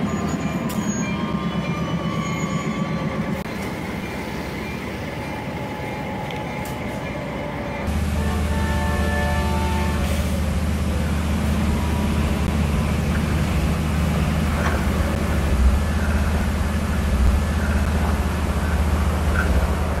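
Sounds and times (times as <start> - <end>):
diesel locomotives rumbling: 0.0 - 20.0.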